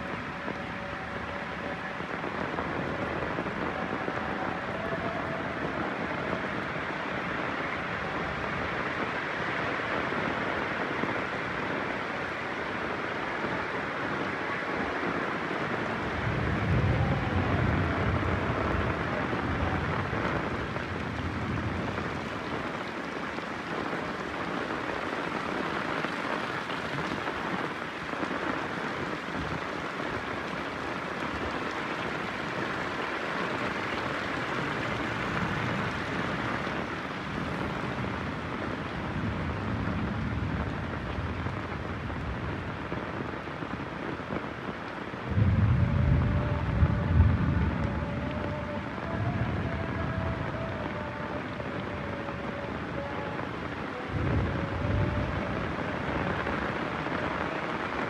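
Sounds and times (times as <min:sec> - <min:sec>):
heavy rain falling: 0:00.0 - 0:58.0
thunder rumbling: 0:00.1 - 0:58.0.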